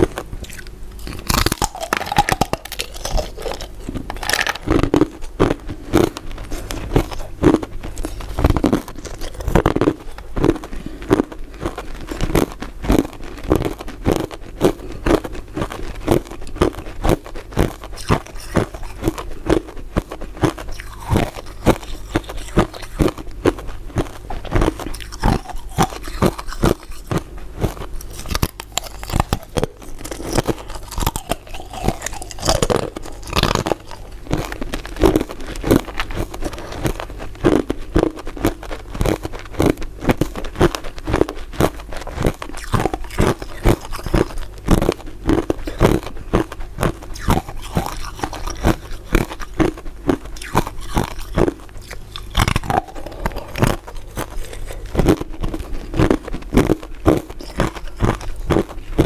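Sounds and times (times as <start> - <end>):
crunching ice dessert: 0.0 - 59.0.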